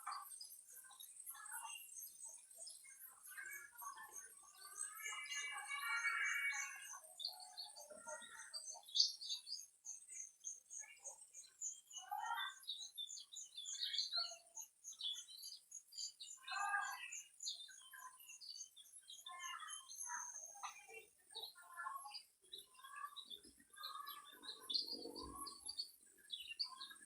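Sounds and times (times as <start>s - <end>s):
birds chirping and singing: 0.0s - 27.0s.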